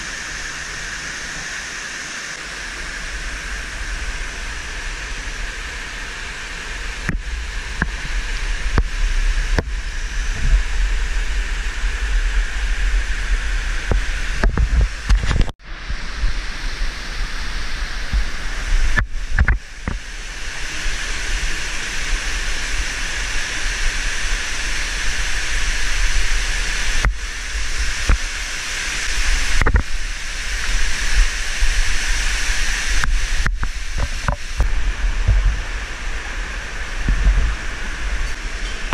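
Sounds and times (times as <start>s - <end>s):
waterfall and whitewater rushing: 0.0s - 38.9s.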